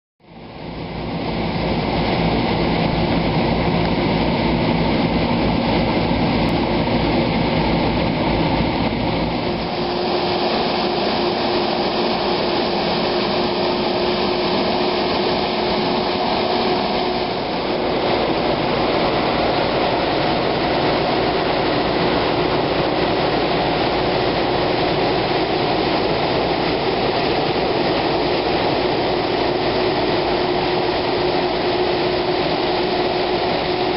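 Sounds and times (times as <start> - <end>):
steady hum: 0.2 - 33.9
truck engine running: 0.4 - 33.9.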